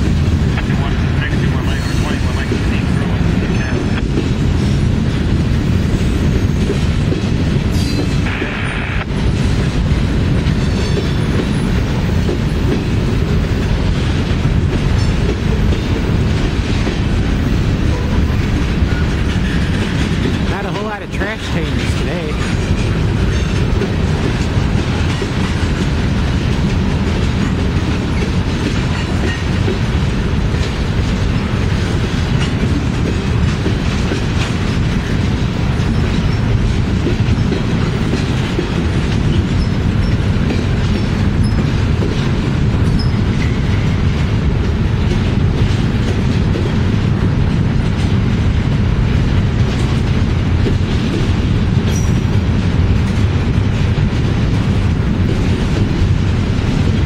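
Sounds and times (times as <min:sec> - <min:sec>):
steel wheels rumbling on rail: 0:00.0 - 0:57.0
wheels clacking over rail joints: 0:00.0 - 0:57.0.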